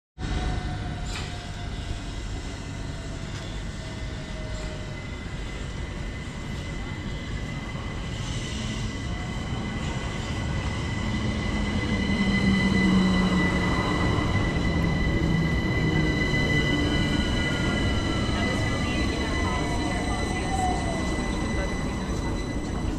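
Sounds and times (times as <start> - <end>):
electric train rail noise: 0.2 - 22.9
high-pitched train tones: 0.2 - 22.9.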